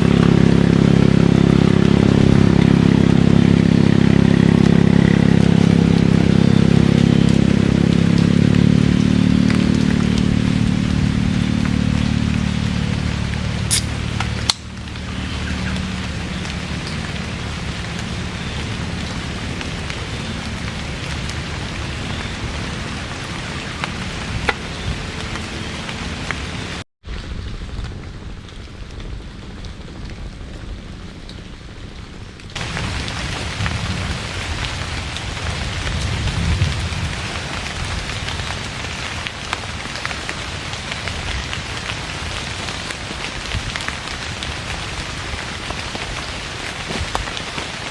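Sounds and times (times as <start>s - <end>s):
heavy rain hissing: 0.0s - 47.9s
rain drop ticks: 0.1s - 47.9s.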